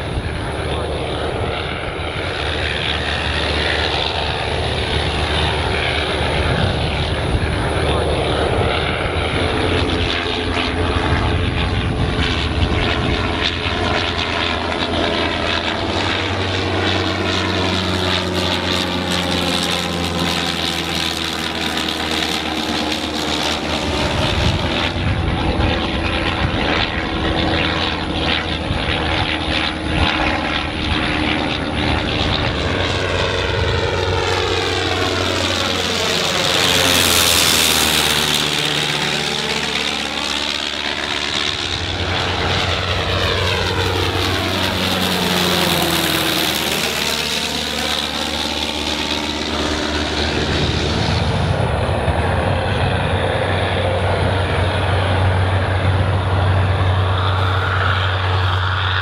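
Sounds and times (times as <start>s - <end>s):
biplane engine droning in flight: 0.0s - 59.0s.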